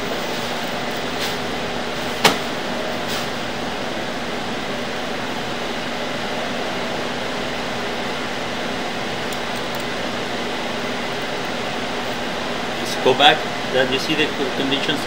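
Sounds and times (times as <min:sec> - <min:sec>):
fan-like machine noise: 0:00.0 - 0:15.0.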